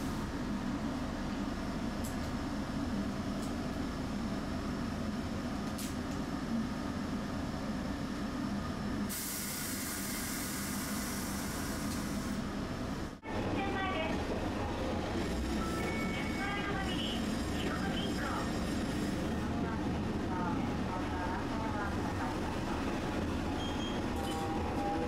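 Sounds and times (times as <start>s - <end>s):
tram rumbling on rails: 0.0s - 25.0s.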